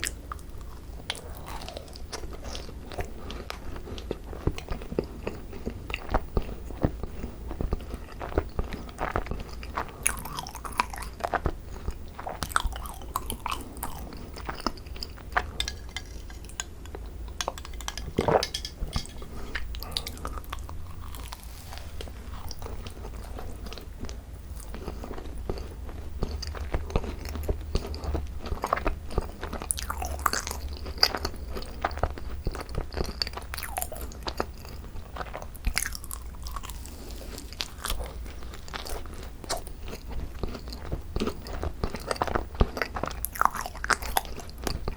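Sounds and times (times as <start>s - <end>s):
crisp shells crackling while chewing: 0.0s - 44.9s.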